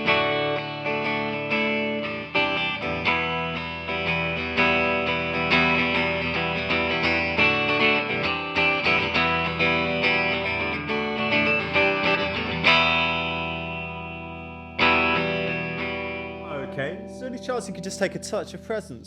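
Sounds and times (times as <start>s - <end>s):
electric guitar chord ringing: 0.0s - 19.0s
electric guitar picking notes: 0.0s - 19.0s.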